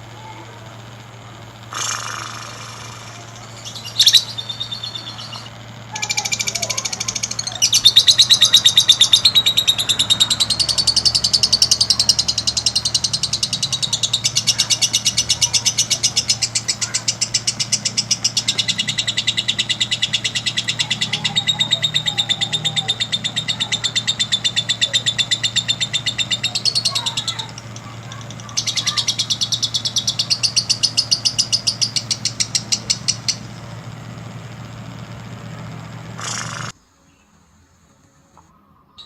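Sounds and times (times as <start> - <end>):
lovebird trilling chirps: 1.7 - 37.2.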